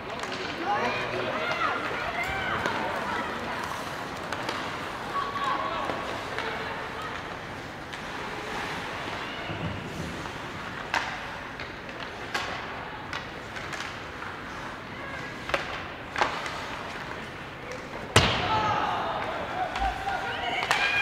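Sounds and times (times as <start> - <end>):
hockey sticks and puck clacking: 0.0 - 21.0
murmur of rink: 0.0 - 21.0.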